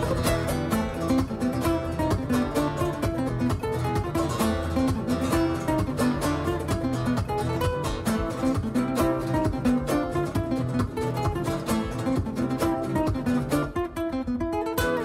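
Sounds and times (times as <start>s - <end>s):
acoustic guitar plucked and strummed: 0.0s - 15.0s.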